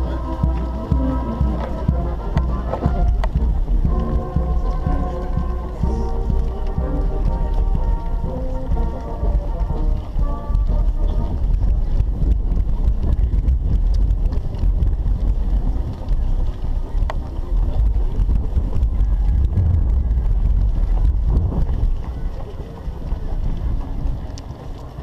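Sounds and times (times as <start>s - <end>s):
runners' footfalls on asphalt: 0.0s - 25.0s
wind buffeting microphone: 0.0s - 25.0s.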